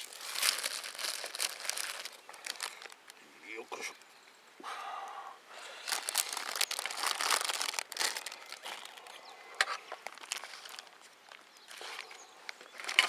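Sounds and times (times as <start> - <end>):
crinkling and rustling: 0.0 - 4.1, 5.9 - 13.0.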